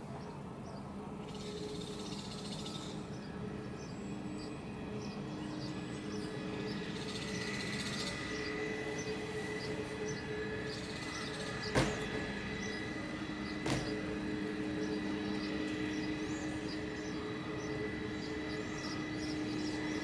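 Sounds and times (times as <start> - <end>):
distant jet airliner: 0.0 - 20.0
small birds chirping: 0.1 - 20.0.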